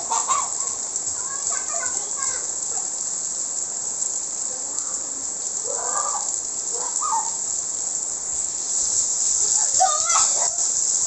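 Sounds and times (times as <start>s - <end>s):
faint distant calls: 0.0s - 11.0s
rain falling: 0.0s - 11.0s.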